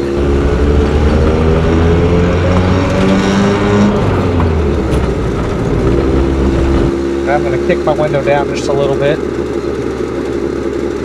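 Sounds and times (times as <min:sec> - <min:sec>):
car engine accelerating: 0:00.0 - 0:11.0
tyre and road noise: 0:00.0 - 0:11.0.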